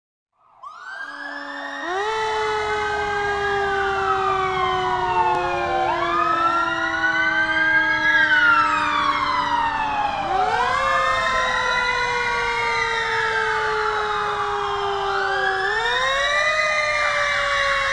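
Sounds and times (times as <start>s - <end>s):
police sirens wailing: 0.4s - 17.9s.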